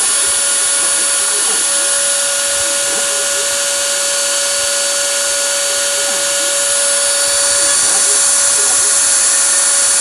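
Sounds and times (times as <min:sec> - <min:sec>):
spindle motor whining: 0:00.0 - 0:10.0
strong hiss: 0:00.0 - 0:10.0.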